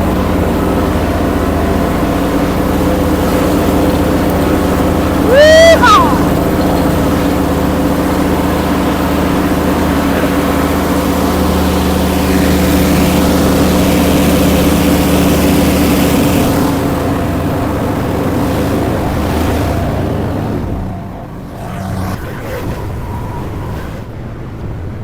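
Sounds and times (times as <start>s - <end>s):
skid steer engines running: 0.0s - 22.3s.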